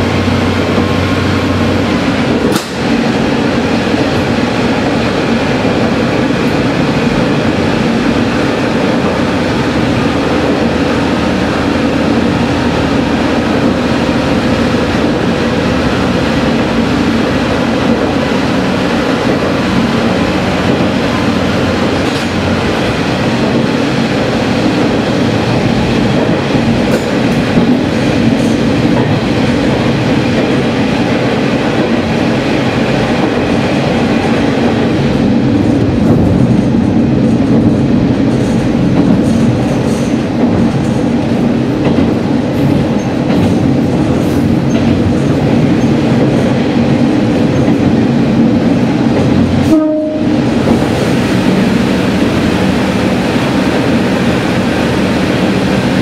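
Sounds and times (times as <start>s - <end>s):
railcar rumbling in a tunnel: 0.0s - 56.0s.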